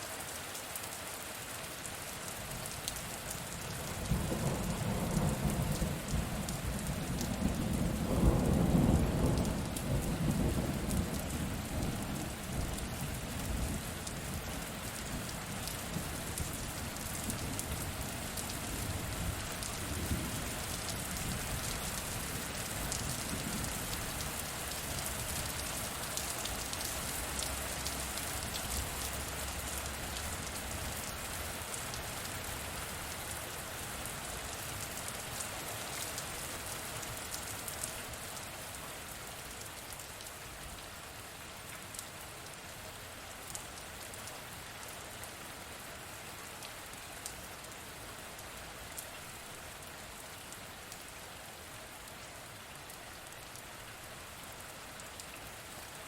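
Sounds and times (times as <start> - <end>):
steady rain with ticking drops: 0.0 - 56.0.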